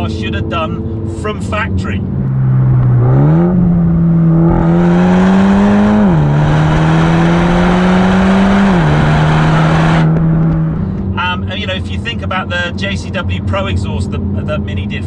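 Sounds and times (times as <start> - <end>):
car exhaust accelerating: 0.0 - 15.0.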